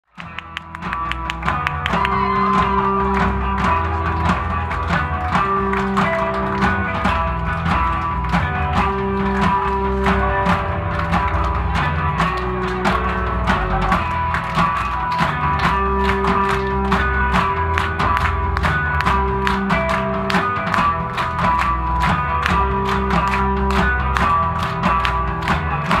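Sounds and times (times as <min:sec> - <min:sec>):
heavy bass line: 0:00.0 - 0:26.0
drums steady beat: 0:00.1 - 0:26.0
electric guitar: 0:00.1 - 0:26.0.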